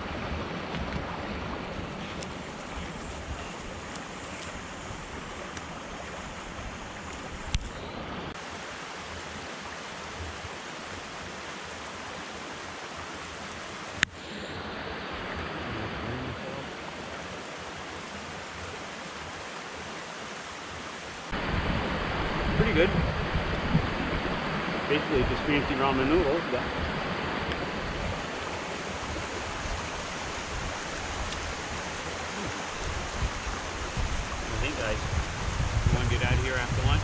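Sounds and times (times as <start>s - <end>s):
creek water rushing: 0.0s - 37.0s.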